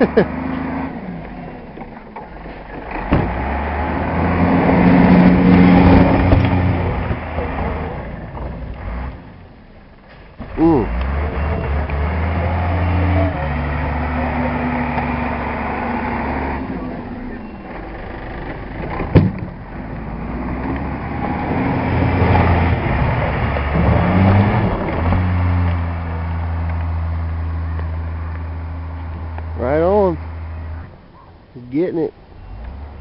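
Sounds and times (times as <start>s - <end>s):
truck engine running: 0.0s - 31.2s.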